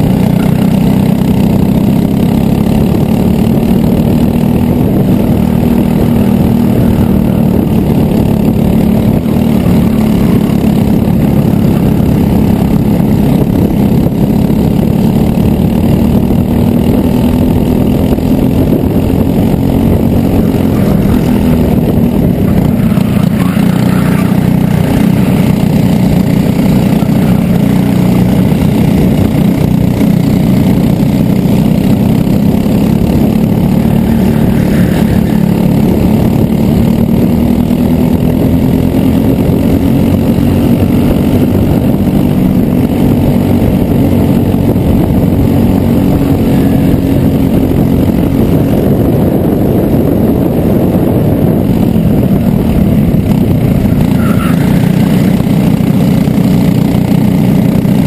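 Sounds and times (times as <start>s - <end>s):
kart engine at high revs: 0.0s - 58.0s.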